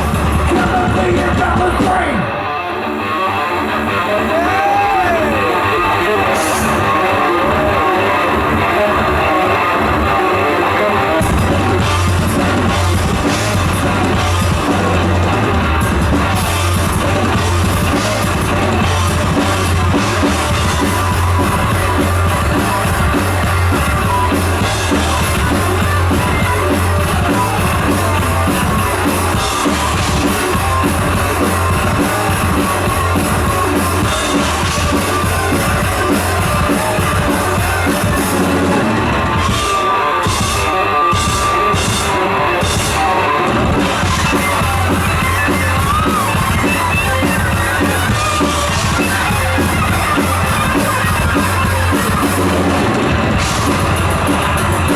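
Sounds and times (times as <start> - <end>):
distorted electric guitar: 0.0 - 54.9
thrash metal band playing: 0.0 - 54.9.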